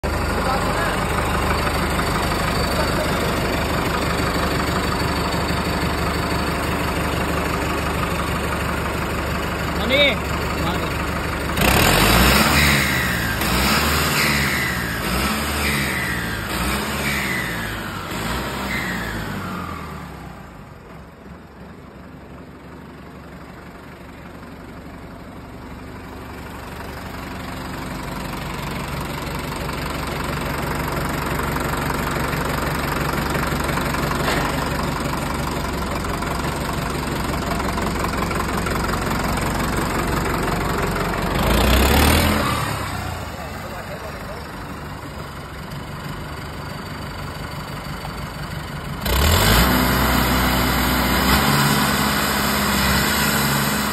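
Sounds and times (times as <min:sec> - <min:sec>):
tractor diesel engine revving: 0:00.0 - 0:21.6, 0:22.8 - 0:53.9.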